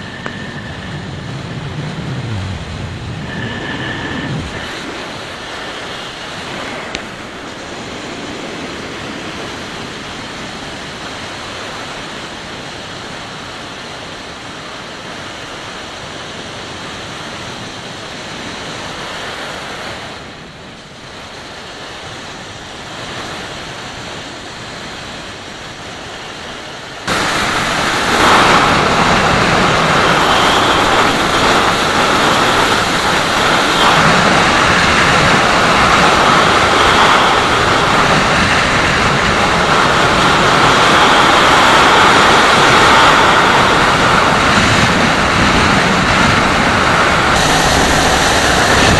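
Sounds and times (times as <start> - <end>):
road noise: 0.0 - 48.9
wind rushing over microphone: 0.0 - 48.9.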